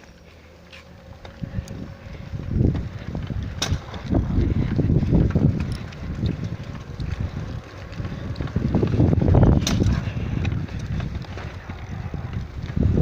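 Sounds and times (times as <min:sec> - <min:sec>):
wind buffeting microphone: 0:01.0 - 0:13.0.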